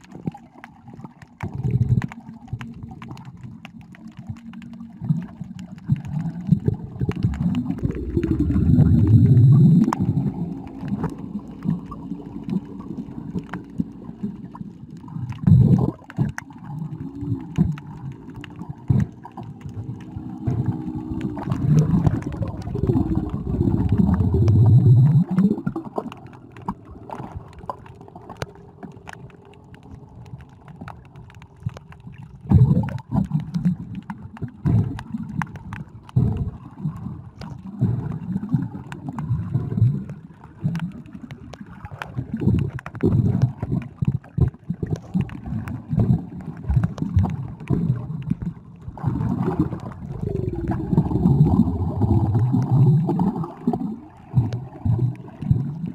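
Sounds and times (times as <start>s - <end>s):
faint clicks: 0.0s - 55.9s
water gurgling and sloshing: 0.0s - 55.9s.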